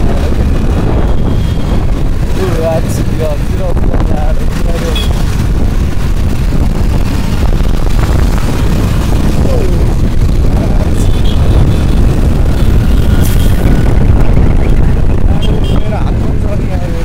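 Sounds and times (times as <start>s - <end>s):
road traffic: 0.0s - 17.0s
wind buffeting microphone: 0.0s - 17.0s.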